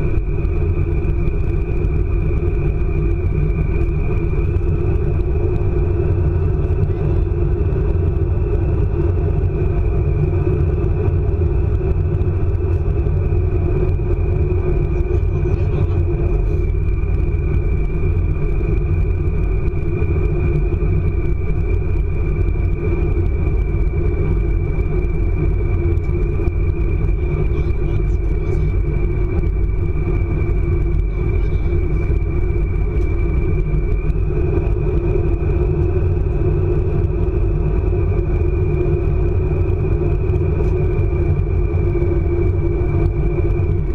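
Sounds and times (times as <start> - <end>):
train high whine: 0.0 - 43.9
train rumbling at speed: 0.0 - 43.9.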